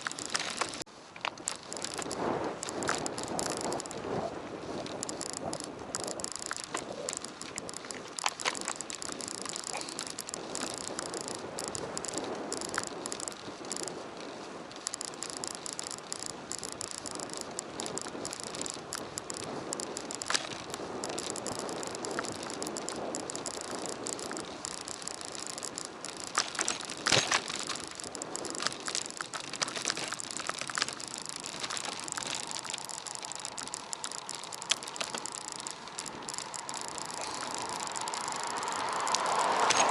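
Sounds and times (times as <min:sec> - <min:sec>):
bicycle rattles and clicks: 0:00.0 - 0:39.9
bicycle tyre and road noise: 0:00.0 - 0:39.9.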